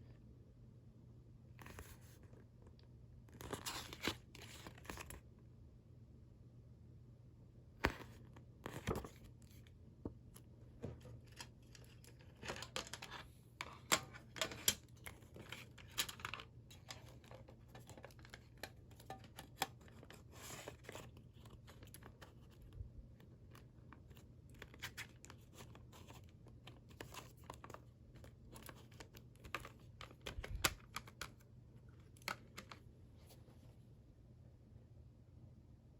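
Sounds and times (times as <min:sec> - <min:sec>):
faint low hum: 0:00.0 - 0:35.9.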